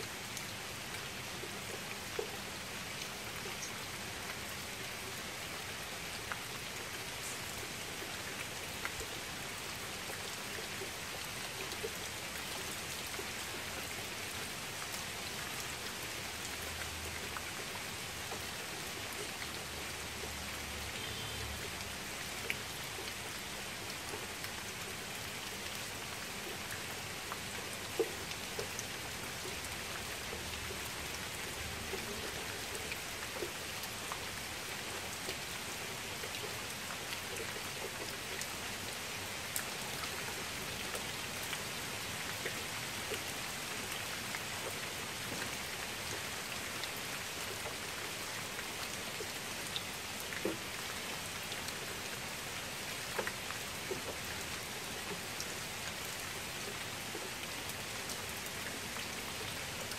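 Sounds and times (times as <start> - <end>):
rain hissing on water: 0.0 - 59.9.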